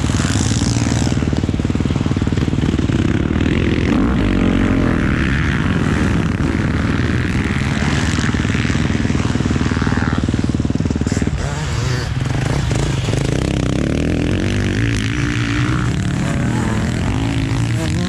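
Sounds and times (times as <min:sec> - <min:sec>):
motocross bike engine running: 0:00.0 - 0:18.0.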